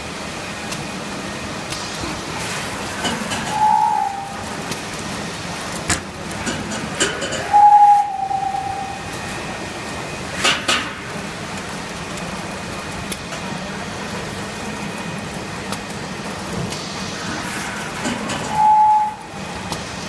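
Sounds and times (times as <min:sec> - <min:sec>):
frying line mechanical hum: 0:00.0 - 0:20.0.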